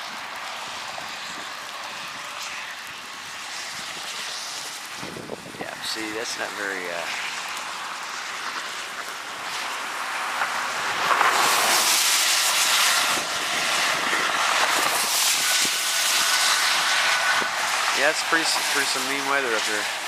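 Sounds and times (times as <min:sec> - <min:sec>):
wind and rain rushing: 0:00.0 - 0:20.0.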